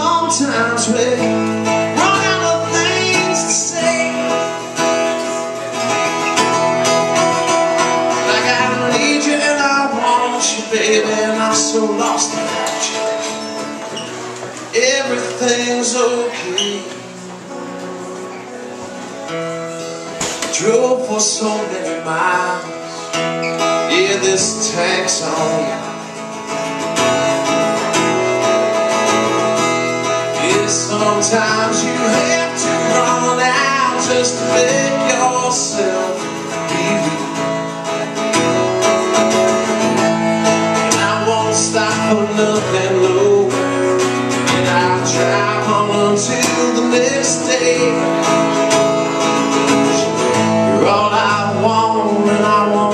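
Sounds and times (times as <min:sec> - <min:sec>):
acoustic guitar strummed and picked: 0:00.0 - 0:52.9.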